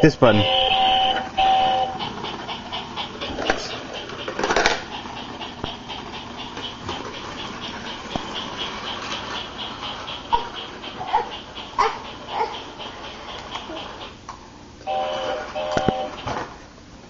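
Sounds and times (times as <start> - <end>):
toy train motor pulsing: 0.0 - 16.6
toy train clatter: 0.2 - 16.6.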